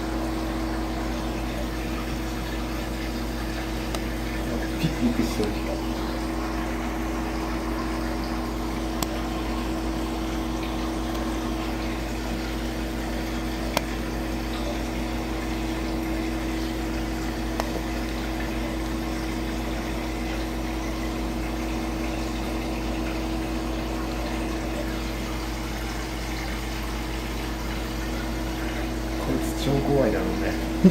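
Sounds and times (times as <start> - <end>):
aquarium pump humming: 0.0 - 30.9
water noise: 0.0 - 30.9.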